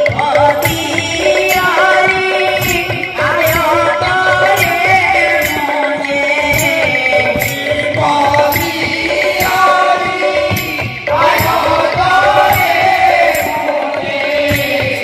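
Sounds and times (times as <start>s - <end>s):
crisp strike beat: 0.0s - 15.0s
drum: 0.0s - 15.0s.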